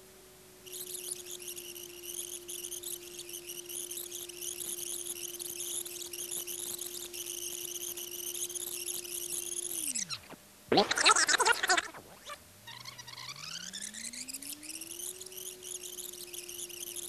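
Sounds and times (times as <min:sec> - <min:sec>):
high fluttering tape chirps: 0:00.6 - 0:17.0.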